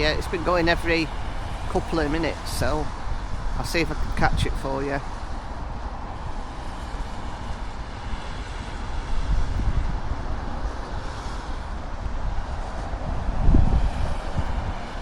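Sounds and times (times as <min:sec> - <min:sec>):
rain: 0:00.0 - 0:15.0
wind buffeting microphone: 0:00.0 - 0:15.0.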